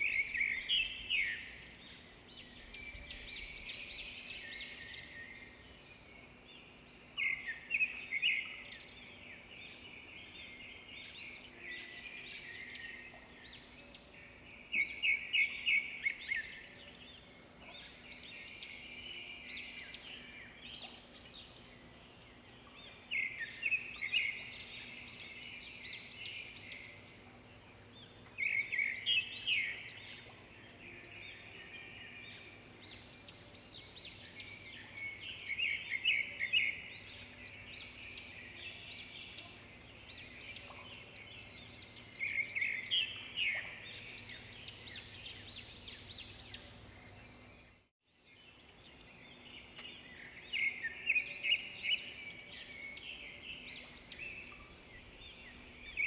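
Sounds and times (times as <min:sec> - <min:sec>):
birds chirping trills: 0:00.0 - 0:56.0.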